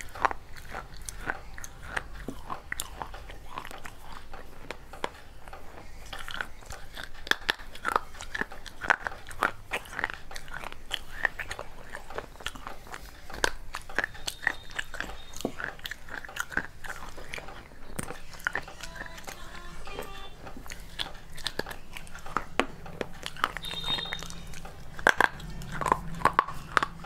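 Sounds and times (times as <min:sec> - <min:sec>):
crunching baked clay: 0:00.0 - 0:19.6, 0:20.3 - 0:27.0.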